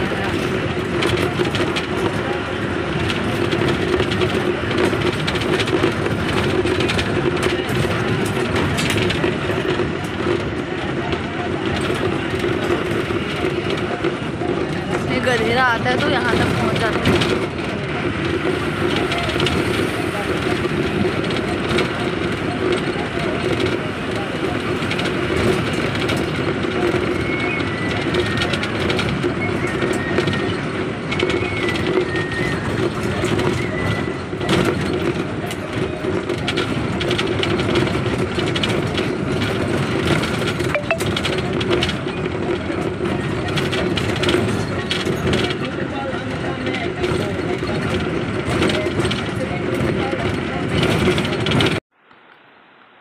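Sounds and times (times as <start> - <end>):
bus body rattling: 0.0 - 51.8
bus engine drone: 0.0 - 53.0
road noise: 0.0 - 53.0.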